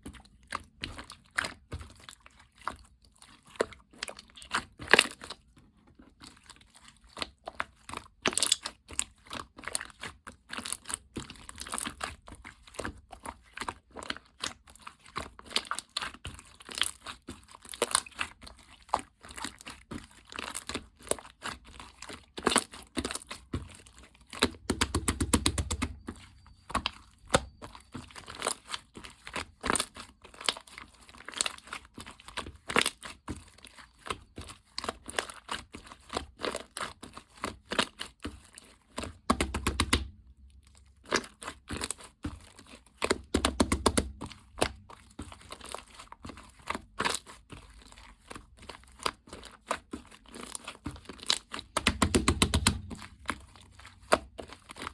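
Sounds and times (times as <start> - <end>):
slime crackling and popping: 7.2 - 14.6, 15.2 - 26.1, 26.7 - 54.9.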